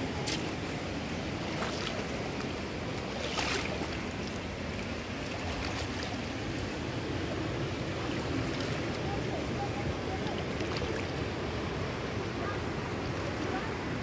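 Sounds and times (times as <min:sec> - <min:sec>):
fast river rushing: 0:00.0 - 0:14.0.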